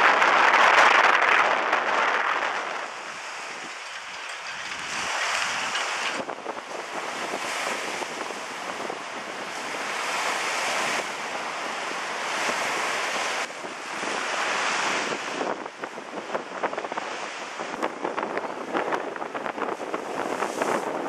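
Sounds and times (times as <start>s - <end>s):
waves splashing against wall: 0.0s - 21.0s
wind buffeting microphone: 0.0s - 21.0s.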